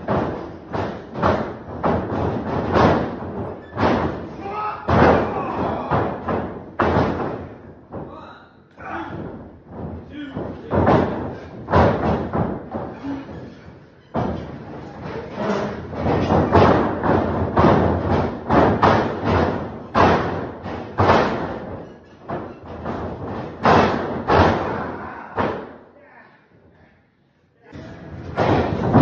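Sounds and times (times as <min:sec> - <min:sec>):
heavy thuds and slams: 0:00.0 - 0:25.9, 0:27.7 - 0:29.0
steady background noise: 0:00.0 - 0:29.0.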